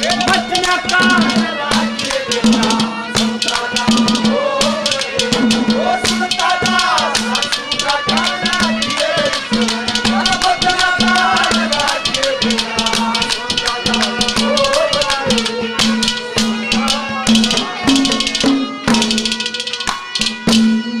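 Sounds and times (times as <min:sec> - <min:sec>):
wavering melody line: 0:00.0 - 0:20.2
harmonium holding notes: 0:00.0 - 0:21.0
rattling percussion and drums: 0:00.0 - 0:21.0.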